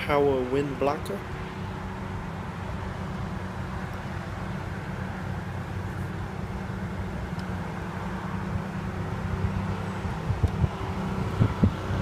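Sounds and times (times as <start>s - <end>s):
car engine idling: 0.0s - 12.0s
outdoor background noise: 0.0s - 12.0s.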